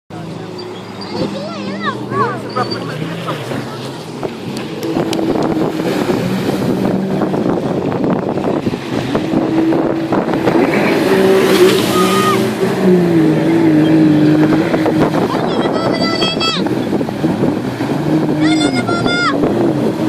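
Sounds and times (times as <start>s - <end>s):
jet ski engine running: 0.1s - 20.0s.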